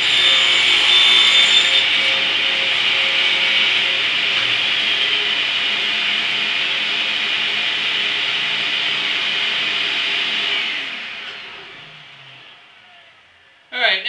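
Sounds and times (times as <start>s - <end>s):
table saw cutting wood: 0.0s - 13.5s.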